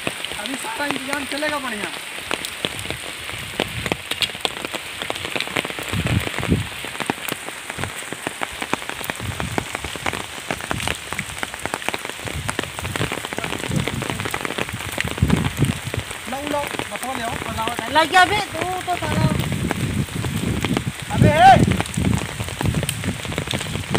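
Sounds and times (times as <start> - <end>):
rain falling: 0.0 - 23.9.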